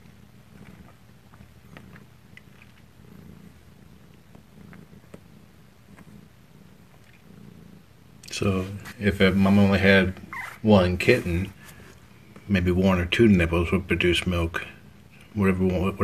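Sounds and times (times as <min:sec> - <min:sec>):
cats purring: 0:00.0 - 0:16.0.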